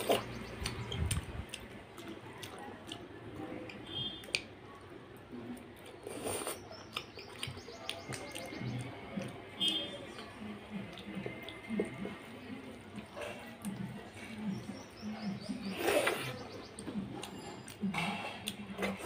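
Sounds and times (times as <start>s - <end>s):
chewing and lip smacks: 0.0s - 4.6s, 5.5s - 19.0s.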